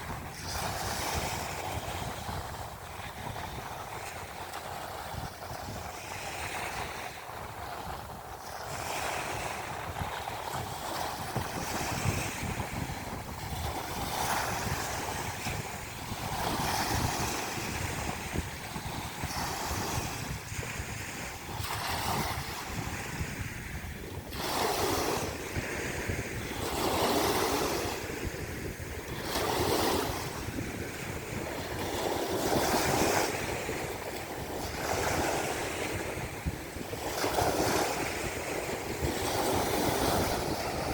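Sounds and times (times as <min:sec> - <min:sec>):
sea waves washing on shore: 0:00.0 - 0:40.9
wind buffeting microphone: 0:00.0 - 0:40.9.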